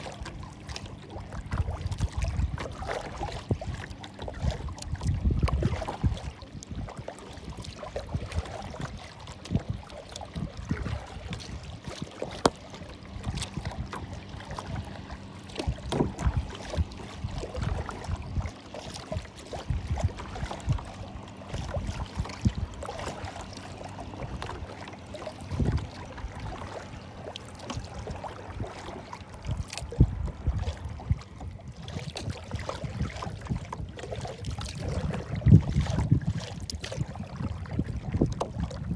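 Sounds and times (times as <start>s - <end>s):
waves lapping against kayak hull: 0.0s - 38.9s
wind buffeting microphone: 0.0s - 38.9s.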